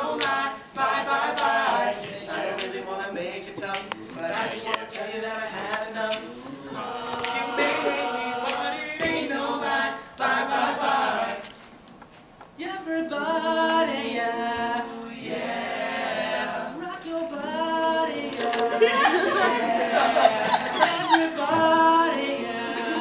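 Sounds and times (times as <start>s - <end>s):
male voices singing in harmony: 0.0s - 11.5s, 12.6s - 23.0s.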